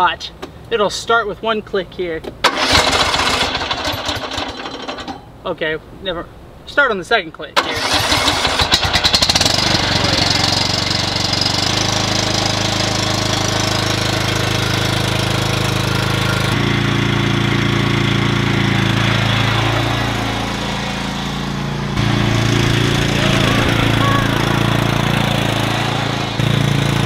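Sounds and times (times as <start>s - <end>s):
riding mower engine running: 2.4s - 5.3s, 7.6s - 27.0s.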